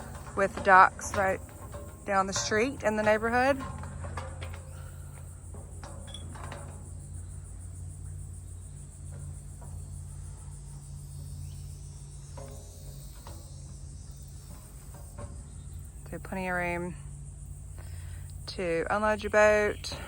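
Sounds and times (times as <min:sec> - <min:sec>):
crickets chirping: 0:00.0 - 0:20.0
low steady rumble: 0:00.0 - 0:20.0.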